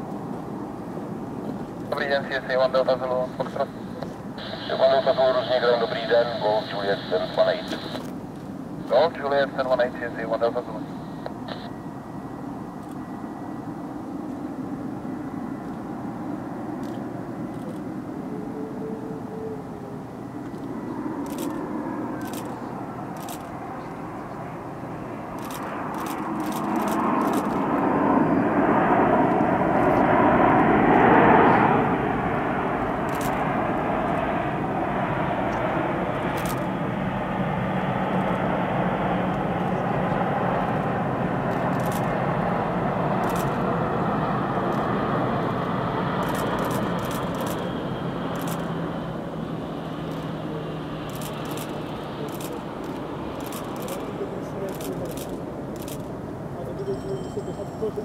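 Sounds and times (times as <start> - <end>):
jet engines rushing: 0.0 - 56.9.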